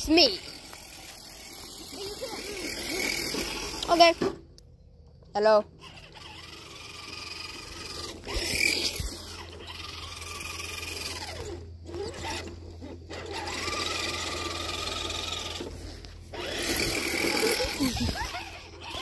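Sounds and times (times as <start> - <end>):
toy truck motor whining: 0.0 - 4.7, 5.4 - 19.0.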